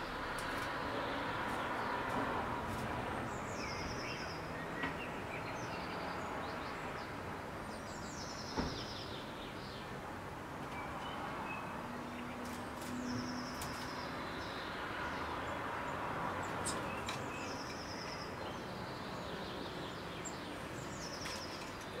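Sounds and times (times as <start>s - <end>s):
city background hum: 0.0s - 22.0s
songbirds trilling: 0.0s - 22.0s.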